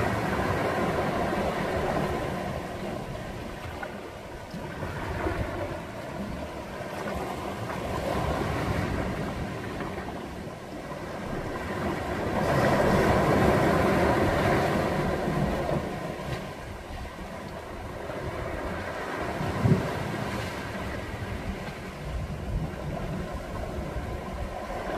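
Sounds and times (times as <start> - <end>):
waves surging onto rocks: 0.0 - 24.9.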